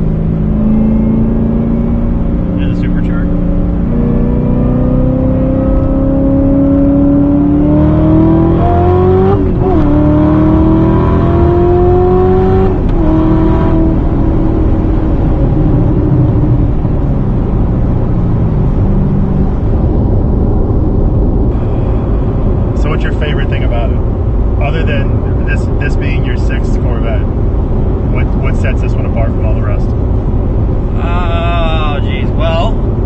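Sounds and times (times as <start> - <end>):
car engine accelerating: 0.0 - 33.0
road noise: 0.0 - 33.0.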